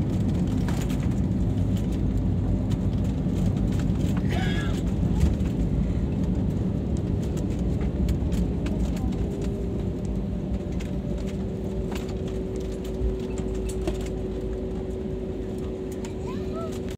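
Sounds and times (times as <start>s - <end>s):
aircraft cabin rumble: 0.0s - 16.9s.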